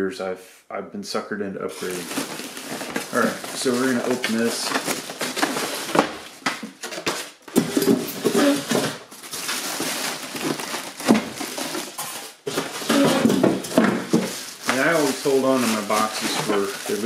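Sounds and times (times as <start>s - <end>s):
plastic wrap crinkling: 1.7s - 17.0s.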